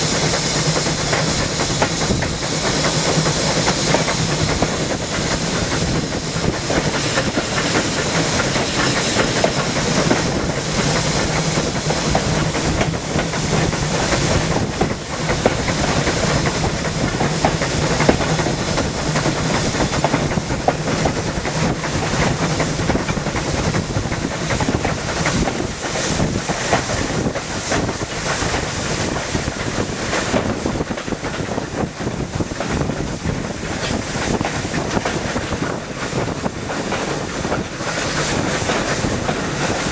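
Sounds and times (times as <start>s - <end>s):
steam hissing: 0.0s - 39.9s
train wheels clattering on rails: 0.0s - 39.9s.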